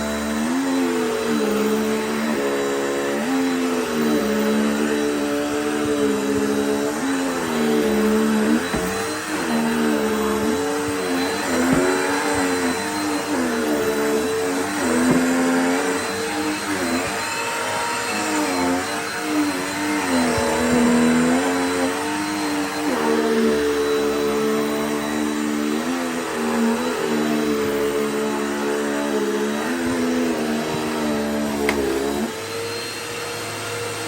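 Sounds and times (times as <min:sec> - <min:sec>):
upright vacuum cleaner running: 0:00.0 - 0:34.0.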